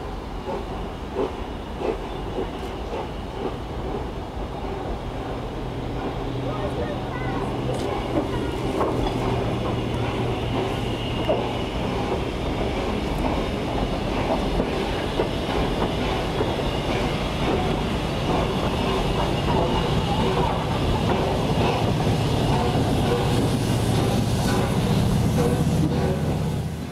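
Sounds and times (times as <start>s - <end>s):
steam locomotive rumble: 0.0s - 26.9s
wheels clicking on rail: 0.4s - 26.9s.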